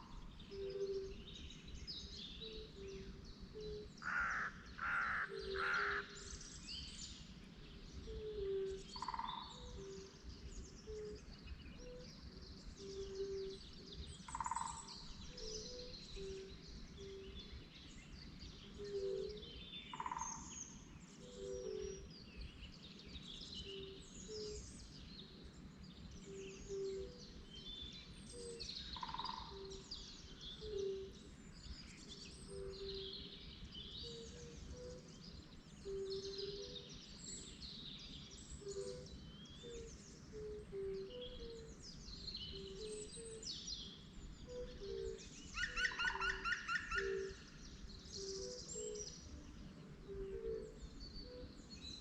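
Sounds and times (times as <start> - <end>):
birds chirping and singing: 0.0 - 52.0.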